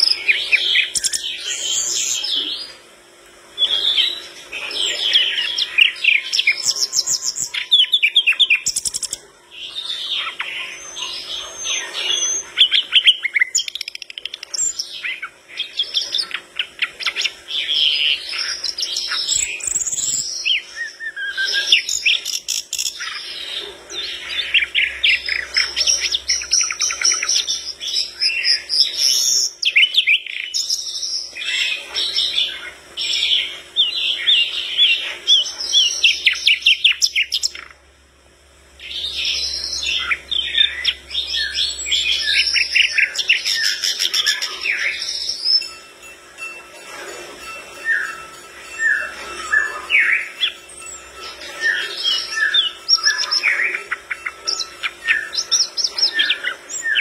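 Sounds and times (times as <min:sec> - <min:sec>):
nightingale singing: 0:03.6 - 0:37.8, 0:38.7 - 0:46.6, 0:47.4 - 0:57.0.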